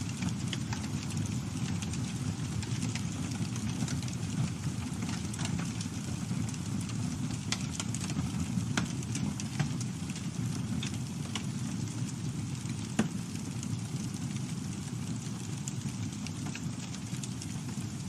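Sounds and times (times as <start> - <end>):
campfire burning: 0.0 - 18.0.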